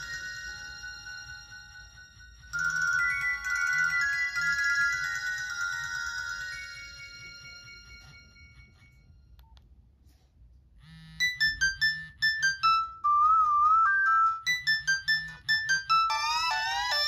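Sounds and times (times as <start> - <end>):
electronic ringtone with pulsing bass: 0.0 - 9.2, 10.8 - 17.0
chime-like ringtone: 0.0 - 9.4, 10.8 - 17.0.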